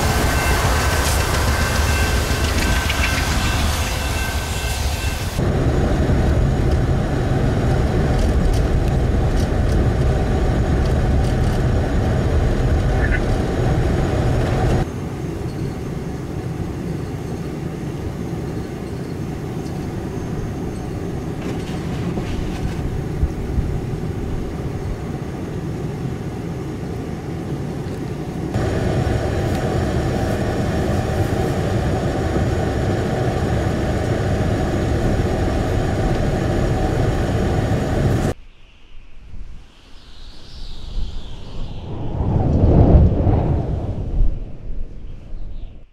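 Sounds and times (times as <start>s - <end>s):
vehicle road noise: 0.0s - 38.4s
blizzard wind: 0.0s - 45.9s.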